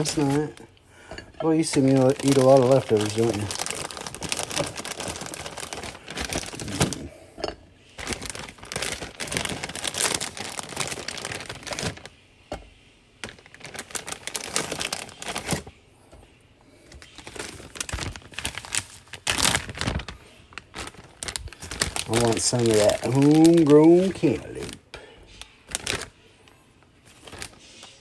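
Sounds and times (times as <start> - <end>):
crinkling: 0.0 - 28.0.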